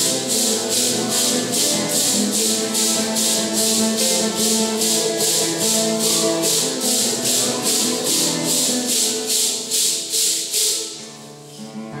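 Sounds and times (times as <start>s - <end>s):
congregation singing a hymn: 0.0s - 10.8s
maracas shaking: 0.0s - 11.9s.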